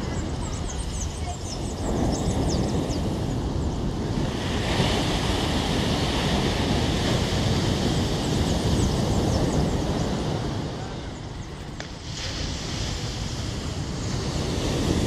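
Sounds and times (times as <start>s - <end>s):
wind buffeting microphone: 0.0s - 15.0s
surf breaking on beach: 1.9s - 11.0s, 11.7s - 15.0s.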